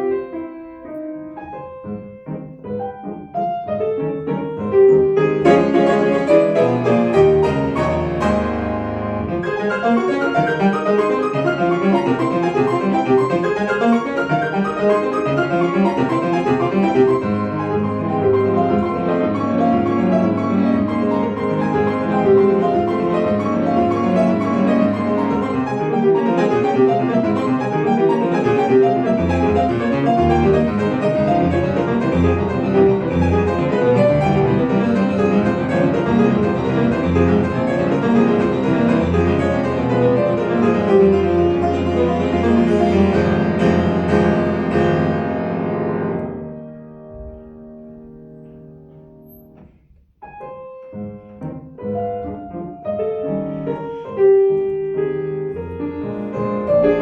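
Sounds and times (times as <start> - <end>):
solo classical piano: 0.0 - 57.0.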